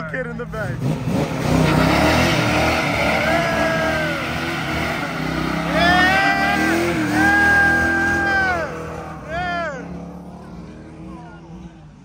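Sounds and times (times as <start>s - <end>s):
tyres screeching in a burnout: 0.6s - 11.7s
car engine revving hard: 0.6s - 11.8s.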